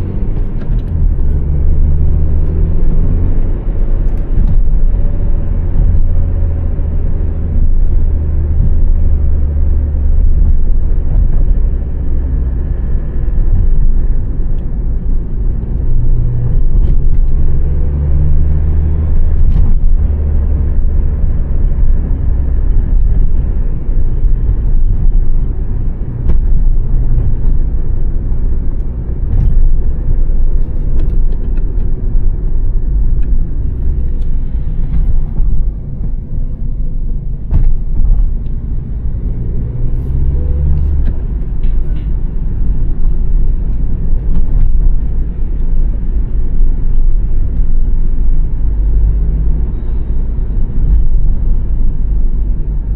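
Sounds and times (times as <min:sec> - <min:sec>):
car engine and road noise: 0:00.0 - 0:52.9.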